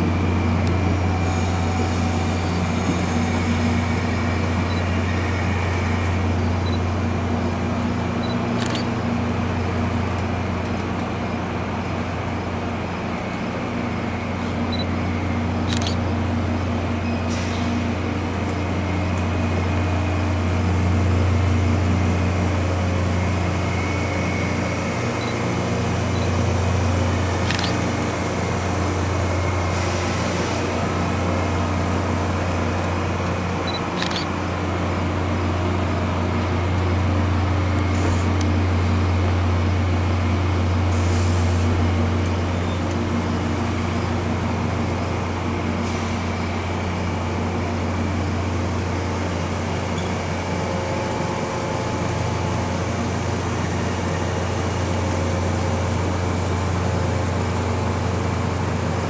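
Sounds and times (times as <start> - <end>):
passenger train rolling past: 0.0 - 59.0
sharp clicks of train: 0.5 - 7.0, 7.9 - 11.4, 13.1 - 16.2, 16.9 - 20.0, 23.2 - 31.4, 32.1 - 59.0.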